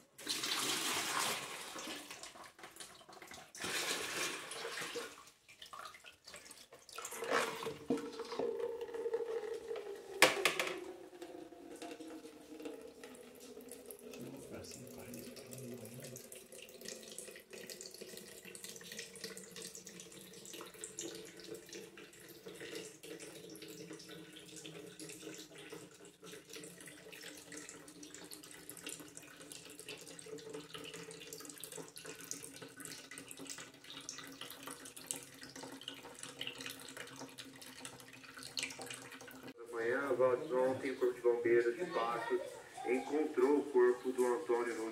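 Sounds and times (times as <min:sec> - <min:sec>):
water splashing into plastic cup: 0:00.2 - 0:39.5
drips: 0:04.7 - 0:44.9.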